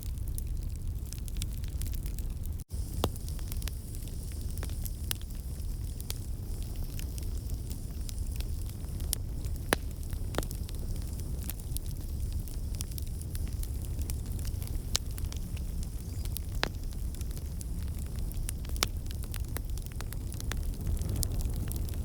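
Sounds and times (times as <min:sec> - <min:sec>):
fire low rumble: 0:00.0 - 0:22.0
fire pops and snaps: 0:00.0 - 0:22.0.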